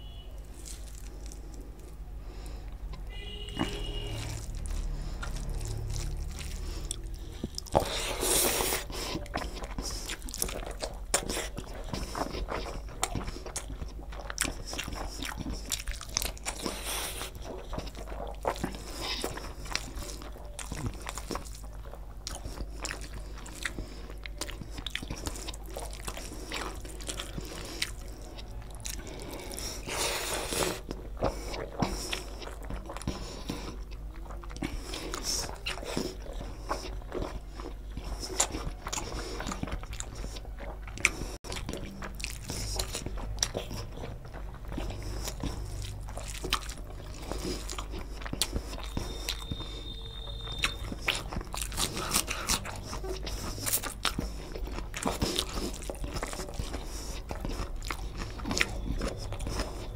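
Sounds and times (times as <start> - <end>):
wet chewing and lip smacking: 0.4 - 59.9.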